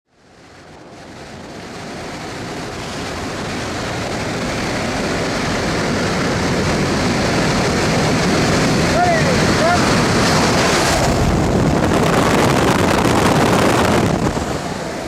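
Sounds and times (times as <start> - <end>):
wind rushing on microphone: 0.2 - 15.0.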